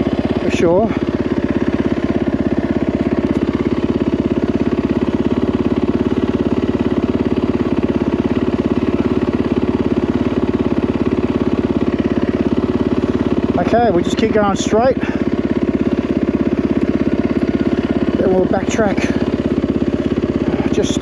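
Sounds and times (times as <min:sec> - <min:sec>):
dirt bike engine idling: 0:00.0 - 0:21.0.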